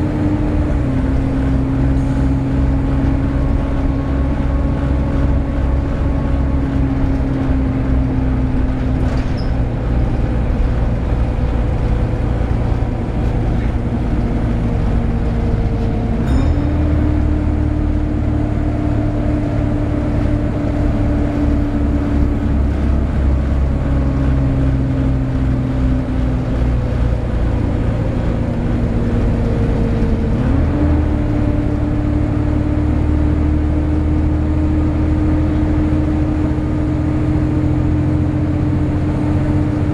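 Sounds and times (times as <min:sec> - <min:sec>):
low diesel engine hum: 0:00.0 - 0:39.9
whining engine cooling fan: 0:00.0 - 0:39.9.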